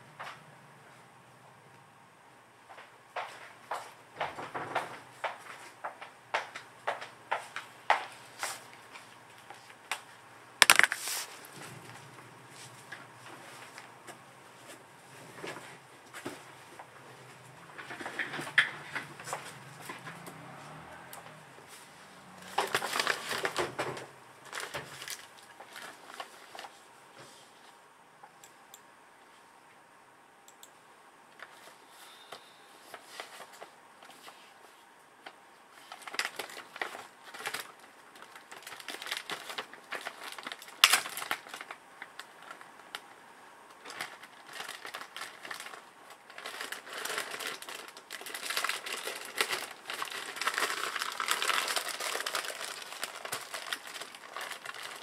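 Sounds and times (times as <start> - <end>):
plastic crinkling and rustling: 2.7 - 26.8, 32.9 - 34.5, 35.2 - 55.0.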